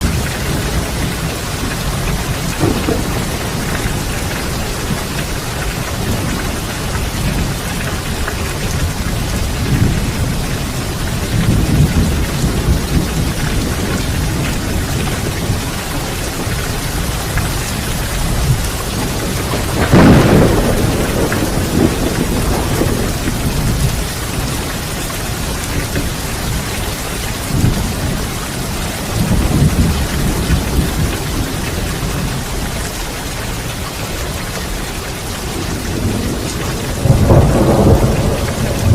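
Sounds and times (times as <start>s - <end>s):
loud thunderclap: 0.0s - 32.6s, 35.5s - 38.9s
low thunder rumbling: 0.0s - 38.9s
steady rain: 0.0s - 38.9s.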